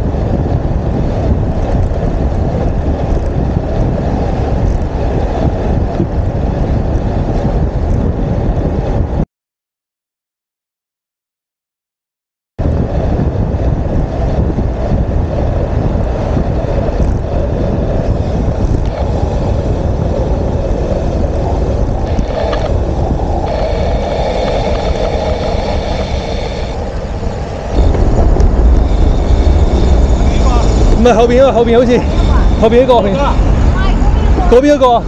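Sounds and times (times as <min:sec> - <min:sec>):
wind buffeting microphone: 0:00.0 - 0:09.2, 0:12.6 - 0:35.0.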